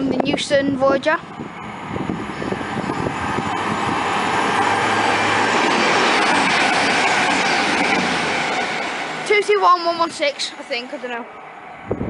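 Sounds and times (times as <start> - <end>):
diesel train passing at speed: 0.0 - 12.0.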